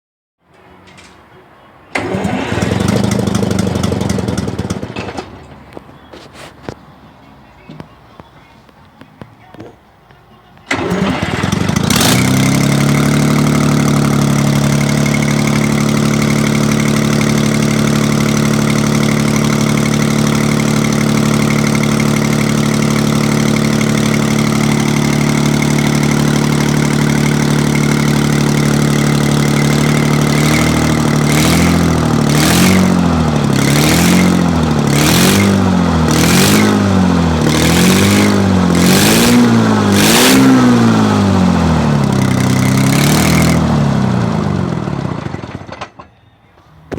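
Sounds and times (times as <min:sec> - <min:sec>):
diesel engine starting and idling: 0:00.6 - 0:08.1, 0:10.6 - 0:46.9
diesel engine revving: 0:01.9 - 0:06.8, 0:10.7 - 0:45.8.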